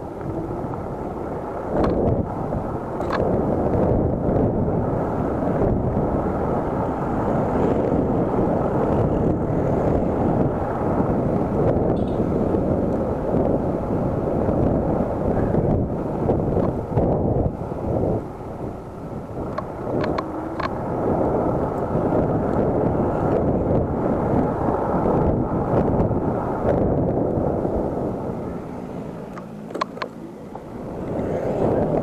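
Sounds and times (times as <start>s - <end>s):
road rumble: 0.0s - 32.0s
wind buffeting microphone: 0.0s - 32.0s.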